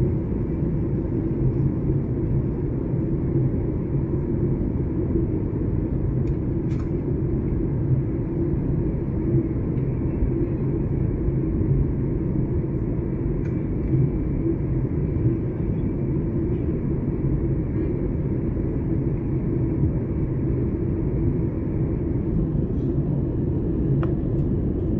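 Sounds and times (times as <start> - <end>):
airliner cabin engine rumble: 0.0 - 24.9.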